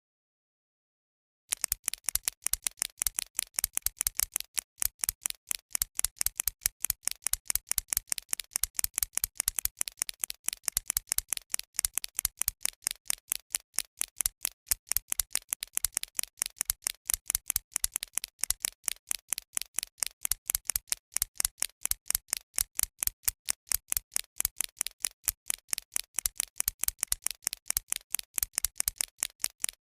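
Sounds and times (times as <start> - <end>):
pencil ticking: 1.5 - 29.9.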